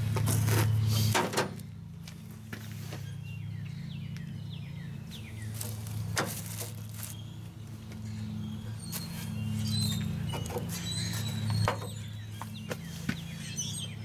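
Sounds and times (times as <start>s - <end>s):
small birds chirping: 2.6s - 14.0s.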